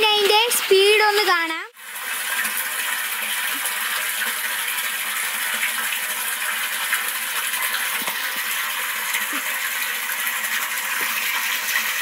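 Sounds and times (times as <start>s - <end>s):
water pouring into tank: 0.0s - 12.0s.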